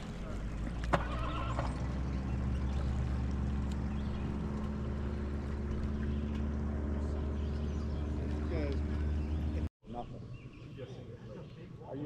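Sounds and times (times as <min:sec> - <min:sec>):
boat motor idling: 0:00.0 - 0:09.7.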